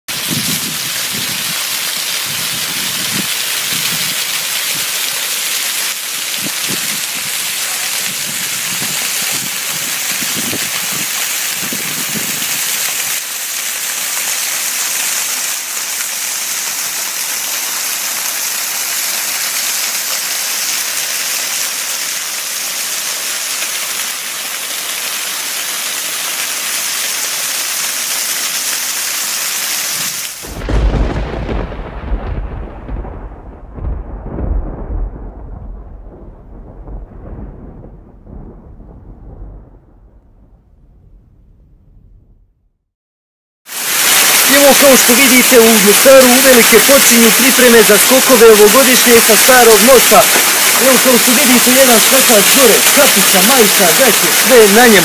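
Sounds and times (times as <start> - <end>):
waterfall splashing onto rocks: 0.1 - 36.1, 43.7 - 55.0.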